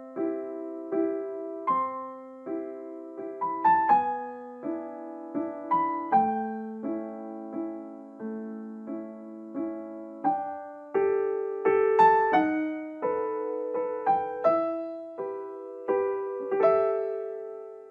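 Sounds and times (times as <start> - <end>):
gentle piano melody: 0.0 - 17.9.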